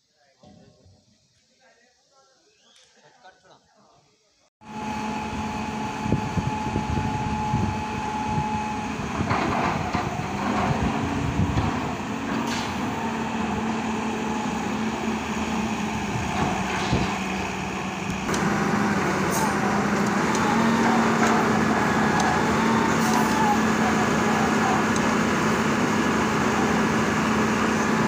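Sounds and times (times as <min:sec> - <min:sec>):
diesel engine and hydraulics running: 0:04.6 - 0:28.0.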